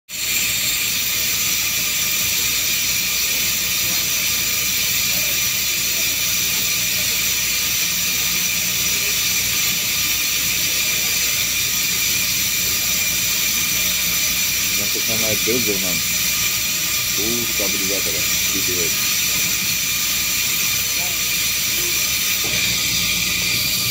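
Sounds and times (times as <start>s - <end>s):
machine hissing and whirring: 0.1s - 23.9s.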